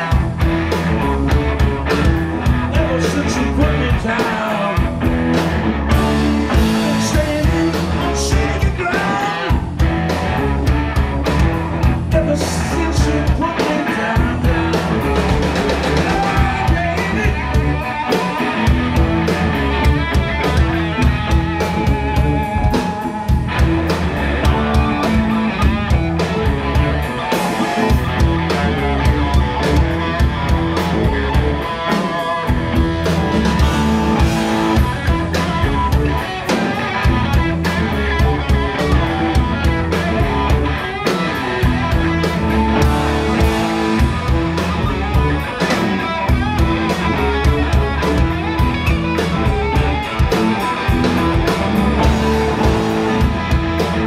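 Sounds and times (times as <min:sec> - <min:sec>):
bass guitar: 0:00.0 - 0:54.0
drum kit beat: 0:00.0 - 0:54.0
electric guitars: 0:00.0 - 0:54.0.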